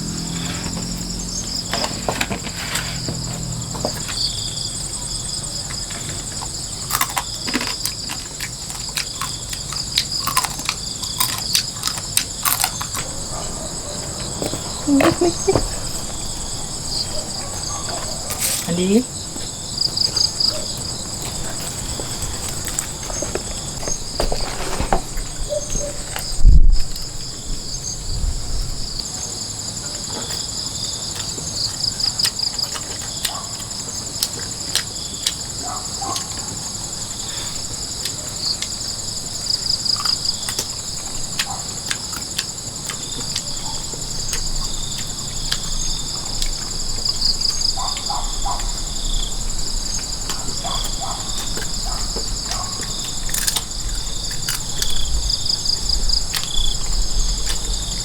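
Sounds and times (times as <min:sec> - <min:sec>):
crickets chirping and trilling: 0:00.0 - 0:58.0.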